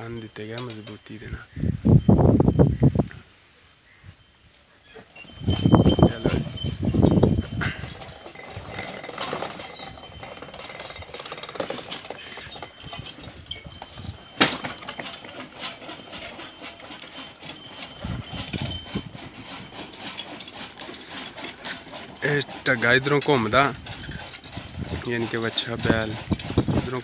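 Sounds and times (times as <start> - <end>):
clanks and knocks: 0.3 - 1.1, 5.2 - 27.0
iron gear turning: 5.1 - 27.0.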